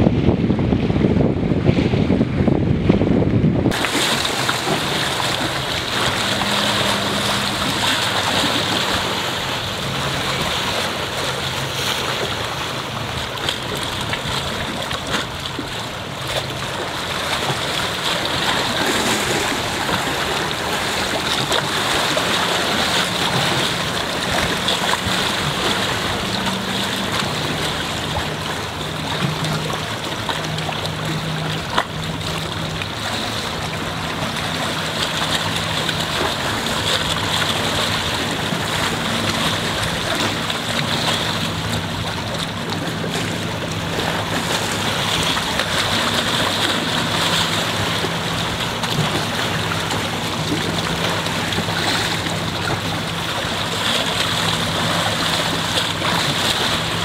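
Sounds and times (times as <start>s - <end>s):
small waves lapping on boulders: 3.6s - 57.0s.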